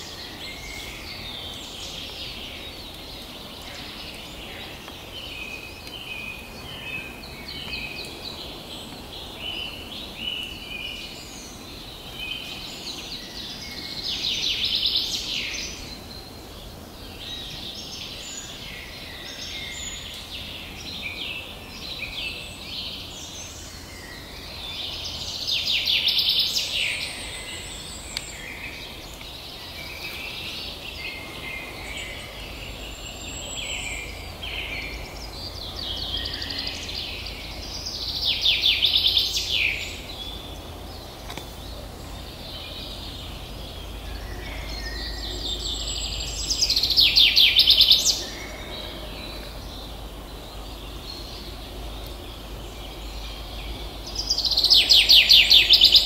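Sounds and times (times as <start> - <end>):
low steady background noise: 0.0 - 56.0
songbirds singing: 0.0 - 56.0.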